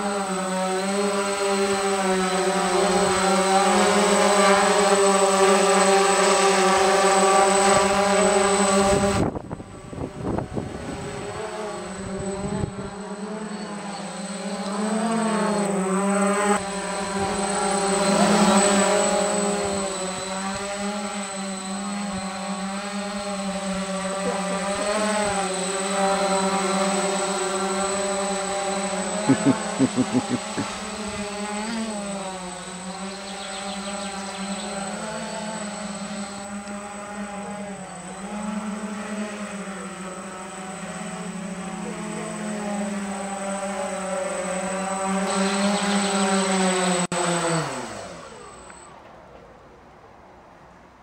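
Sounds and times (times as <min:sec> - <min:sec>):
drone motors whining: 0:00.0 - 0:49.1.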